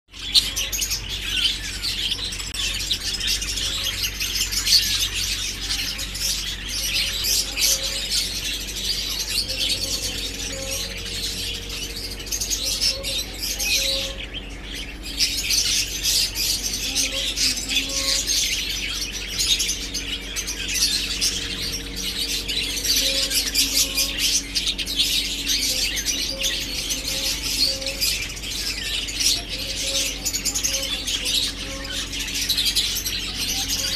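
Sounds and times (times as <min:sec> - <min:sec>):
budgerigars chirping: 0:00.1 - 0:33.9
steady low hum: 0:00.1 - 0:33.9.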